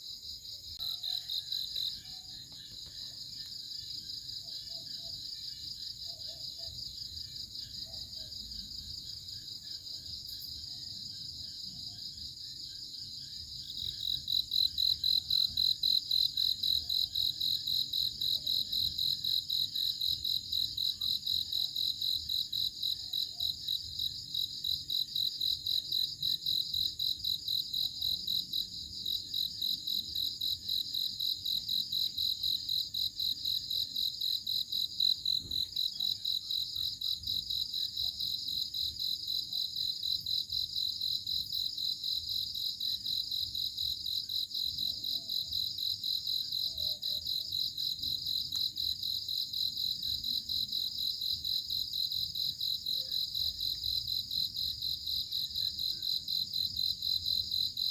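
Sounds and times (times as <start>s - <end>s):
close cricket chirping: 0.0s - 57.9s
crickets chirping: 0.0s - 57.9s.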